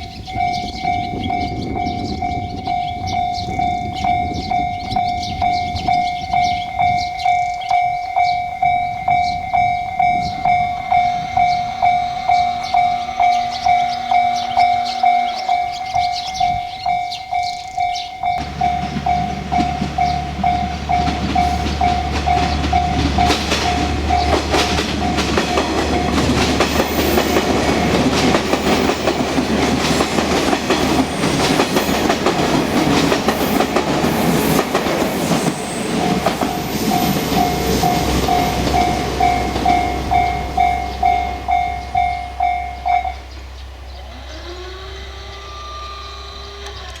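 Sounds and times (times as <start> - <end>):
train wheels clacking on rails: 0.0 - 43.7
level-crossing warning bell: 0.0 - 47.0
train rumble: 0.0 - 47.0.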